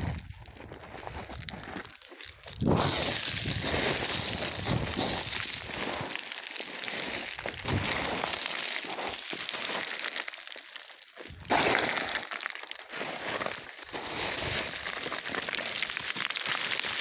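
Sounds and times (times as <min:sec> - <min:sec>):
footsteps crunching on scree: 0:00.0 - 0:17.0
small stones clattering: 0:00.0 - 0:17.0.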